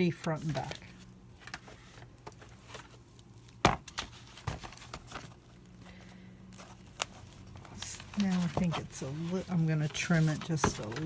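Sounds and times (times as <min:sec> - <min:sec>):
paper pages shuffling: 0:00.2 - 0:11.0.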